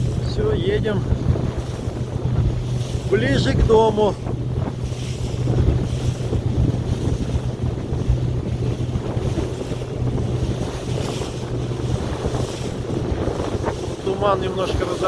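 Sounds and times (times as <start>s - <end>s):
boat motor humming: 0.0s - 15.0s
water rushing past hull: 0.0s - 15.0s
wind buffeting microphone: 0.0s - 15.0s.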